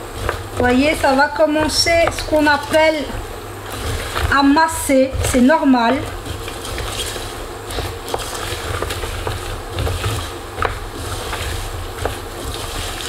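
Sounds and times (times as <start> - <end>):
steady low hum: 0.0 - 13.0
wooden spoon scraping saucepan: 0.0 - 13.0.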